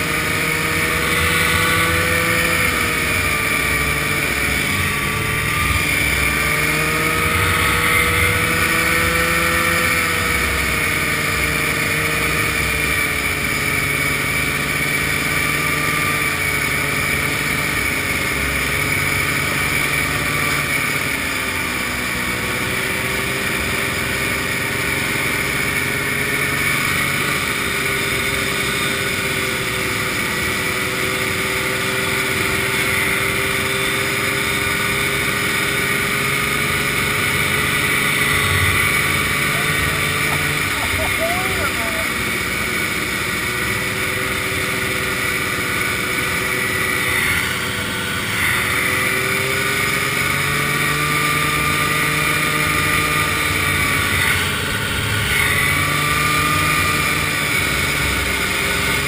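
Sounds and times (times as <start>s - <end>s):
snowmobile engine running: 0.0s - 59.0s
wind: 0.0s - 59.0s.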